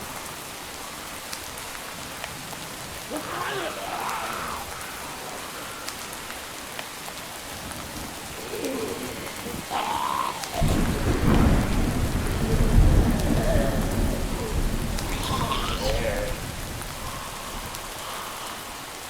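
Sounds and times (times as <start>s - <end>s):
steady rain falling: 0.0s - 19.0s
thunder rumbling: 2.6s - 18.8s.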